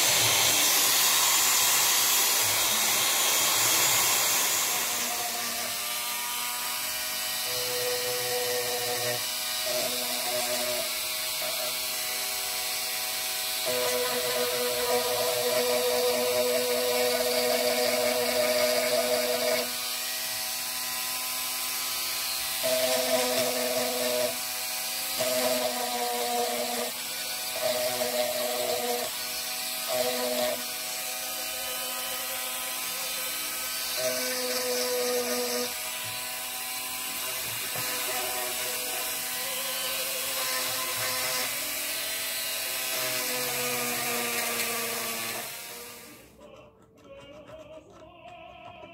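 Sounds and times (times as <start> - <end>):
rotary tool whining: 0.0 - 48.9.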